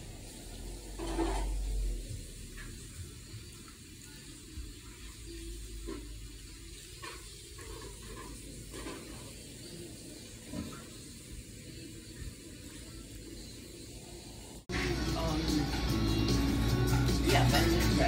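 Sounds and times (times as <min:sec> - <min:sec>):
faint room noise hiss: 0:00.0 - 0:18.0.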